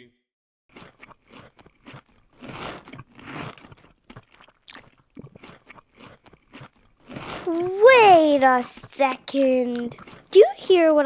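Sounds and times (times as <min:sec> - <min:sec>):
cookie crunching and chewing: 0:00.7 - 0:11.0.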